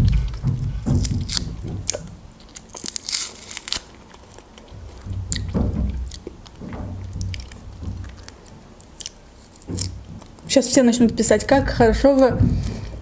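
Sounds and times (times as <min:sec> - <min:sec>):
close chewing: 0:00.0 - 0:10.5
dried fish crackling and snapping: 0:00.0 - 0:11.3.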